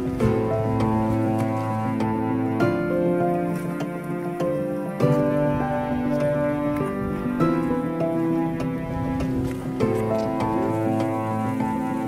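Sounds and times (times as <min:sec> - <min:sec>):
music of held notes: 0:00.0 - 0:12.0.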